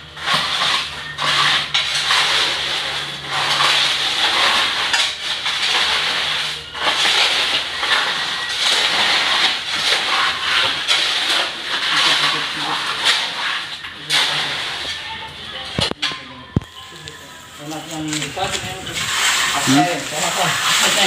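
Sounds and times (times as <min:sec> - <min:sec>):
shovel scraping wet mortar on concrete: 0:00.1 - 0:16.3, 0:16.9 - 0:21.0.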